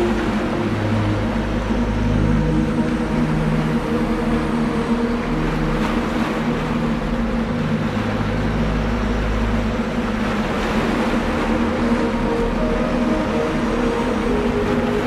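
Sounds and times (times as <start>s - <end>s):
low humming drone: 0.0s - 15.0s.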